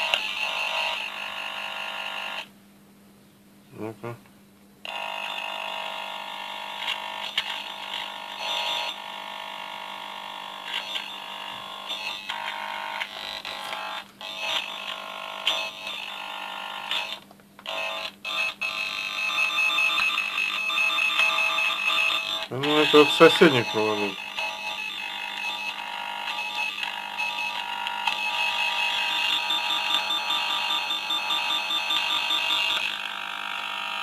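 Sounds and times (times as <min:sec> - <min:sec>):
tone tracer probe buzzing: 0:04.9 - 0:34.0.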